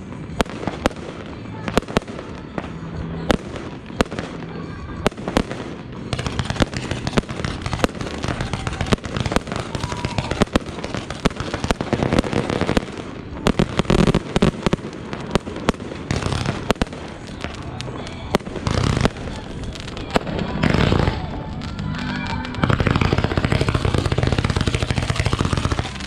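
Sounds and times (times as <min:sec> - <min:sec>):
fireworks cracking and popping: 0:00.0 - 0:26.0
heavy firework booms: 0:05.0 - 0:26.0.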